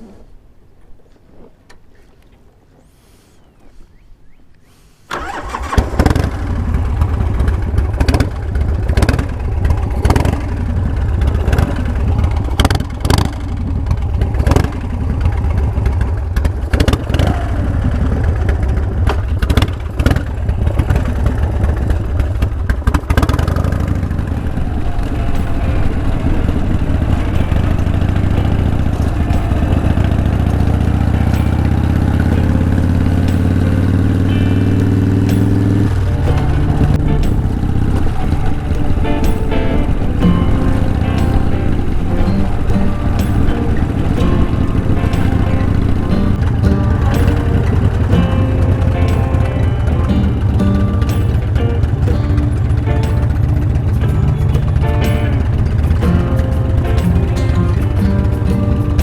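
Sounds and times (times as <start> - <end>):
motorcycle engine starting and running: 5.1 - 59.0.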